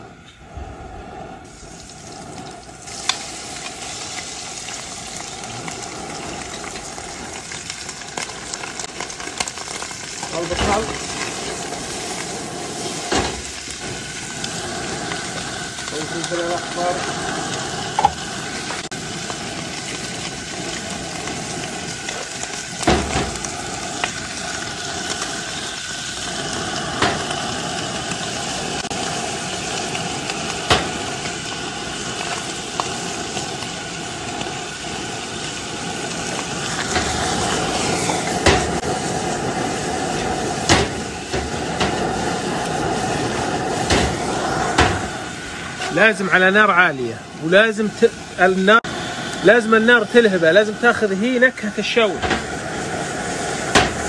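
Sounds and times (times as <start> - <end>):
food sizzling in pan: 1.4 - 54.0.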